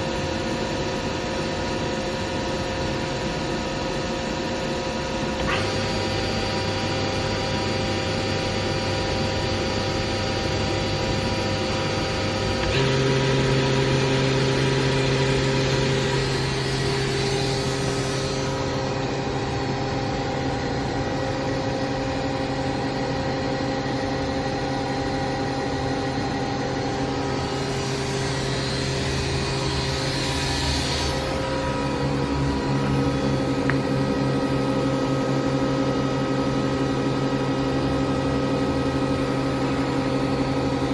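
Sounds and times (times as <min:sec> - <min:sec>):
machine hum and whine: 0:00.0 - 0:40.9.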